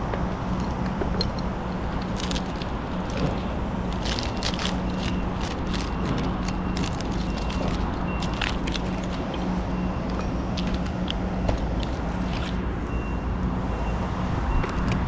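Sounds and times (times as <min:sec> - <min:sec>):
low engine hum: 0:00.0 - 0:15.0
metallic clinks and rattles: 0:00.4 - 0:12.6.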